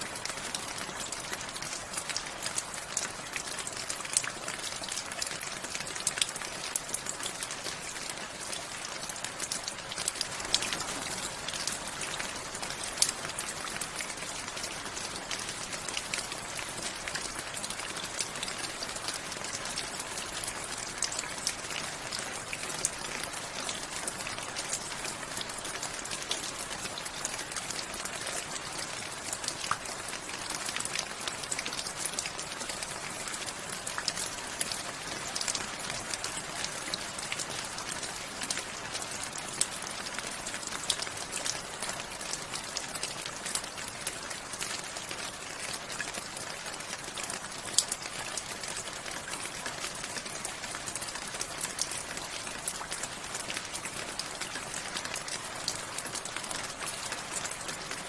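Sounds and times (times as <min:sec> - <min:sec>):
raindrops pattering on hard surface: 0:00.0 - 0:58.0
steady rain hiss: 0:00.0 - 0:58.0.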